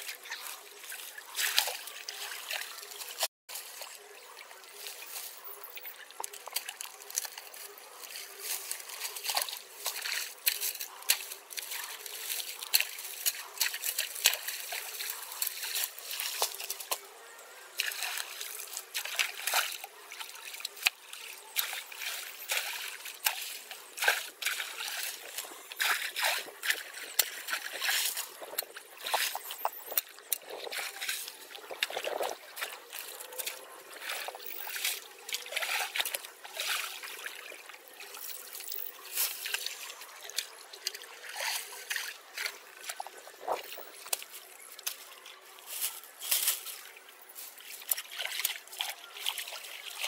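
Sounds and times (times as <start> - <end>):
water splashes: 0.0 - 50.0
water trickling and sloshing: 0.0 - 50.0.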